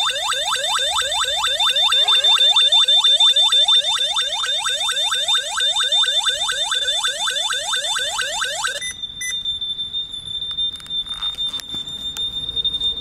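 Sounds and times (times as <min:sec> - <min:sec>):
whooping alarm siren: 0:00.0 - 0:13.0.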